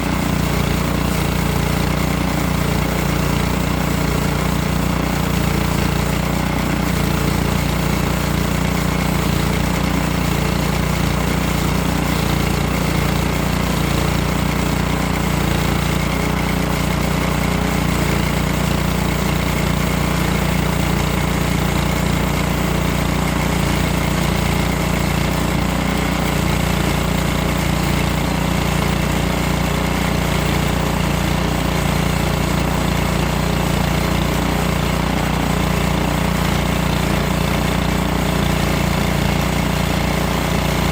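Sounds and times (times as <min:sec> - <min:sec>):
sawmill engine running under load: 0:00.0 - 0:40.9.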